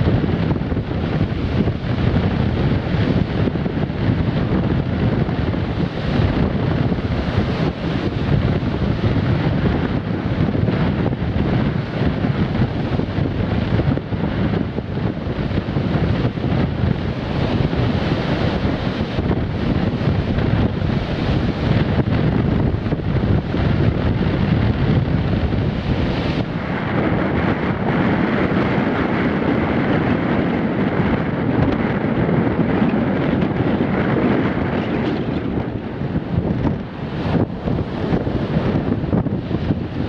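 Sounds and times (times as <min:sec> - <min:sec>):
surf breaking on shore: 0:00.0 - 0:40.0
wind buffeting microphone: 0:00.0 - 0:40.0.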